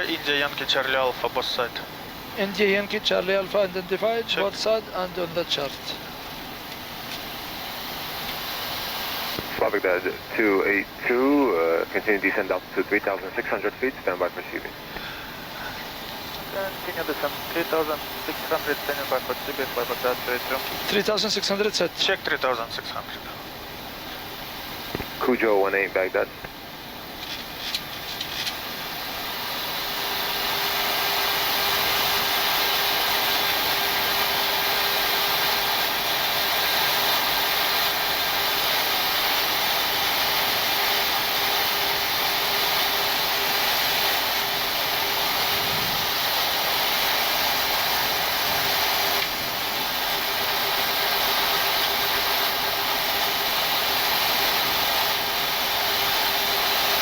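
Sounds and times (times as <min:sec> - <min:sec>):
faint steady hum: 0:00.0 - 0:57.0
rush of air in cockpit: 0:00.0 - 0:57.0.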